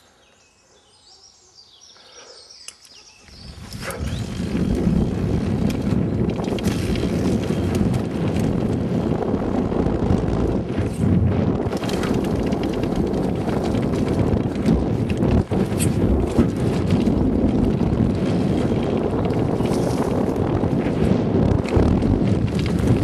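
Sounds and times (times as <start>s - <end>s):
wind noise on microphone: 3.3s - 23.0s
tyre noise on dirt: 3.5s - 23.0s
bike rattling and knocking: 3.6s - 23.0s.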